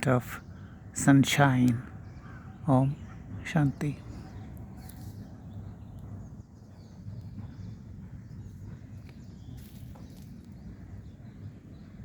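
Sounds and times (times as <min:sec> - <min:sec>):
steady low rumble: 0:00.0 - 0:12.0
faint bird calls: 0:01.6 - 0:11.4.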